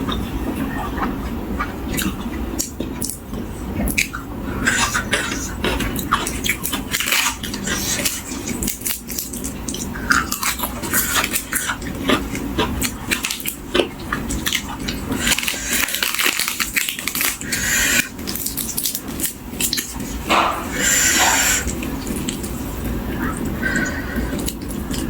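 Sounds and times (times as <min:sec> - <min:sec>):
person chewing crunchy vegetables: 0:00.0 - 0:25.0
wet mouth noises: 0:00.0 - 0:25.0.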